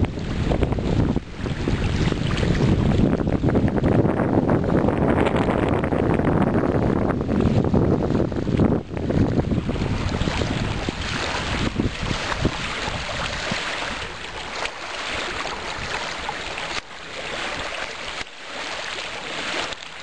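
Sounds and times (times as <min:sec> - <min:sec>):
wash of water: 0:00.0 - 0:20.0
water splashing and bubbling: 0:00.0 - 0:20.0
wind buffeting microphone: 0:00.0 - 0:20.0.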